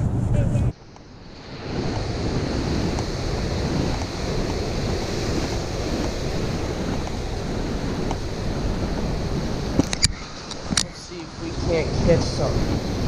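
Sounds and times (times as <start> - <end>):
wind rumbling on microphone: 0.0 - 13.0
ocean waves breaking: 0.8 - 13.0.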